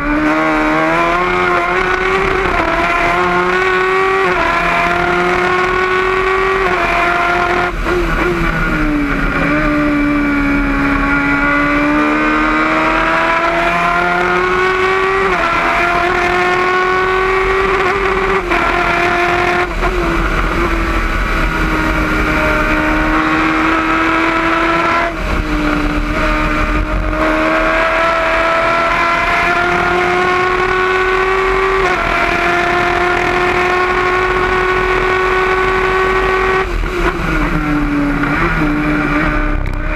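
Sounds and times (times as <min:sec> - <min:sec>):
race car engine accelerating: 0:00.0 - 0:39.9
wind: 0:00.0 - 0:39.9.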